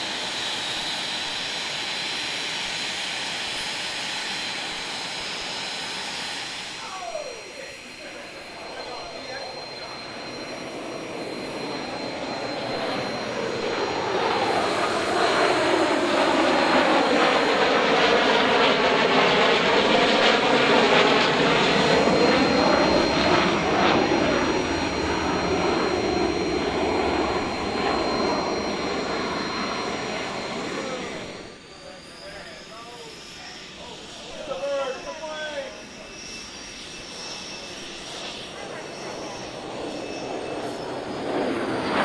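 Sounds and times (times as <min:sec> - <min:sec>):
jet aircraft passing: 0:00.0 - 0:42.0.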